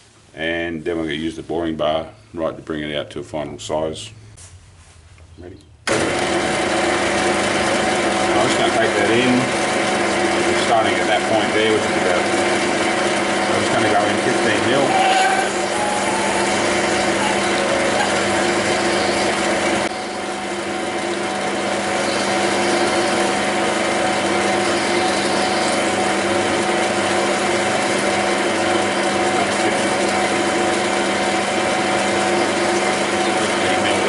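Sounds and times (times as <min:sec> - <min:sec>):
metal lathe motor whine: 0:05.9 - 0:34.0.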